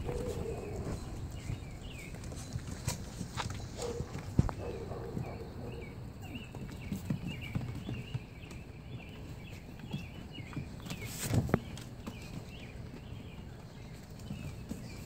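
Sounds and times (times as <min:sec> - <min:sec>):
puppy paws pattering on wood: 0:00.0 - 0:15.0.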